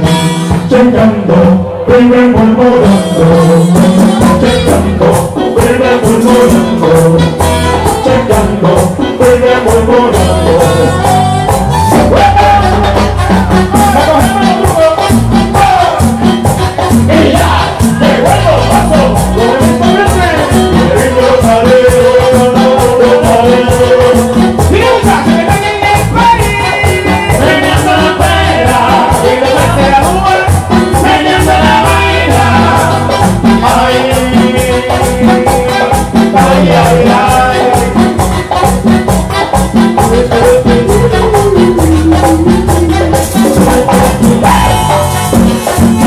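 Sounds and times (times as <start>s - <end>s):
bass: 0.0s - 46.0s
fast percussion beat: 0.0s - 46.0s
person singing: 0.0s - 46.0s.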